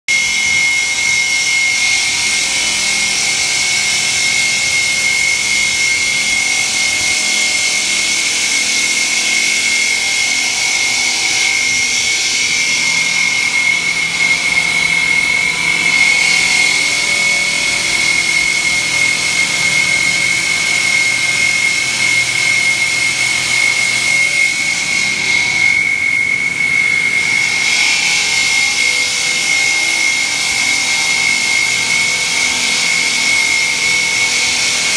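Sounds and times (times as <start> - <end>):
high-pitched saw blade whine: 0.1 - 34.9.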